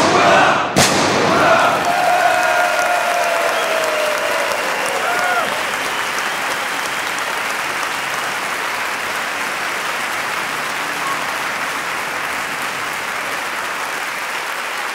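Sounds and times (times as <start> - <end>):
crowd applauding: 1.2 - 14.9.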